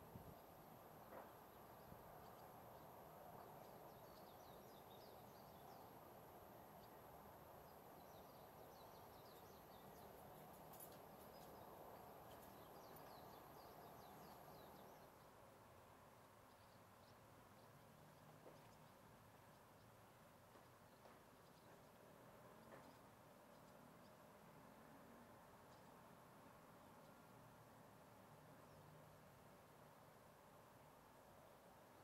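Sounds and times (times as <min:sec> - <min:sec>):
distant birds chirping: 0:00.3 - 0:29.7.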